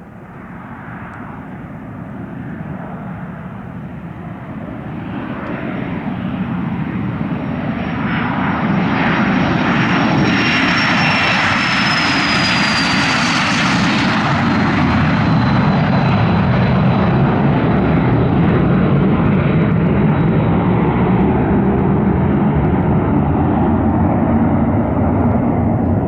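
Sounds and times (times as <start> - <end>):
airplane engine whine: 0.0 - 26.0.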